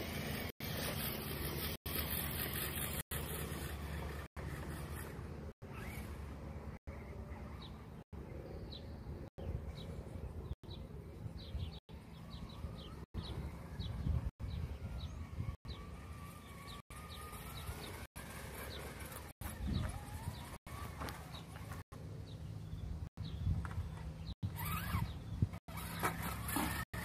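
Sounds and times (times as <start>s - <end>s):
small birds chirping: 0.2s - 27.0s.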